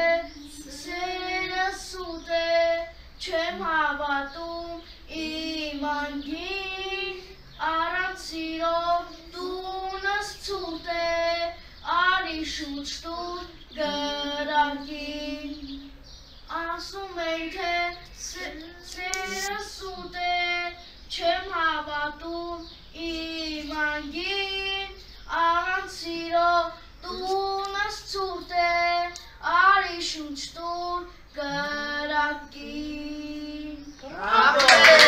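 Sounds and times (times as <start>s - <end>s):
boy singing unaccompanied: 0.0s - 35.0s.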